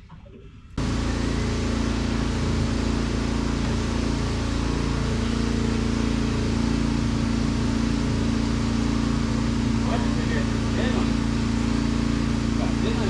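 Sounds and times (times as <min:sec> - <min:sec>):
electric machine humming and whirring: 0:00.0 - 0:13.0.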